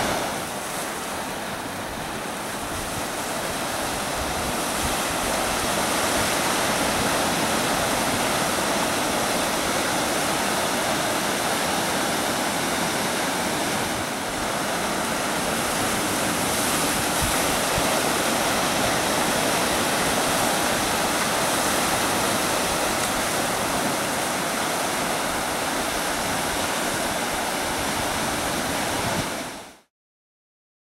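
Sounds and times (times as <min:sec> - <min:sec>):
surf breaking over rocks: 0:00.0 - 0:29.8.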